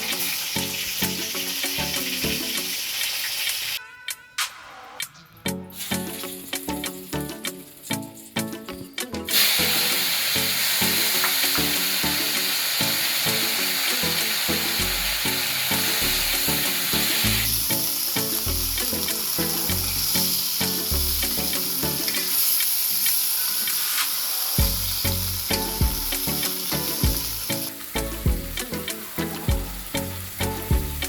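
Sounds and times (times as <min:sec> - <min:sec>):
hot oil sizzling in a pan: 0:00.0 - 0:03.8, 0:09.3 - 0:31.0.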